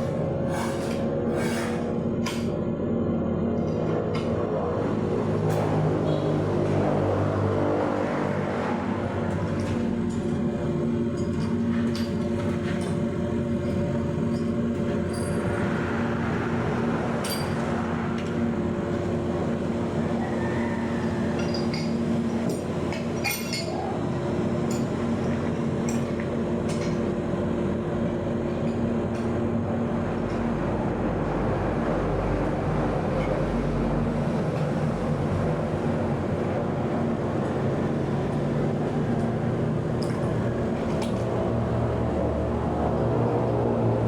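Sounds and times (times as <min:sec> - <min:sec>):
low rumbling hum: 0:00.0 - 0:44.0.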